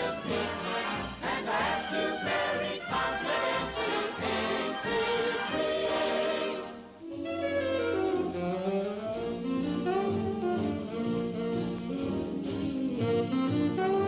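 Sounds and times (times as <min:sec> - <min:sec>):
band with orchestra: 0:00.0 - 0:14.0
saxophone jazzy tune: 0:00.0 - 0:14.0.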